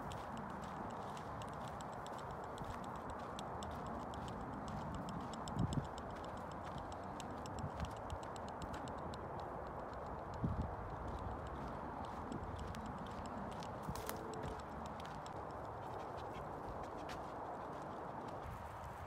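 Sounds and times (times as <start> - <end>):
light clicking and crackling: 0.0 - 16.4
footsteps on dirt trail: 0.0 - 19.0.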